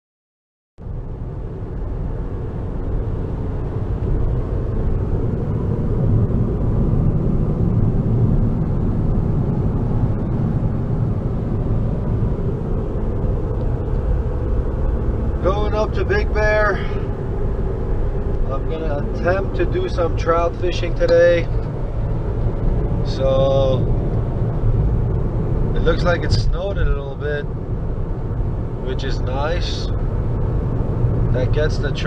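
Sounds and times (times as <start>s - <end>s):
car road and engine rumble: 0.8s - 32.0s.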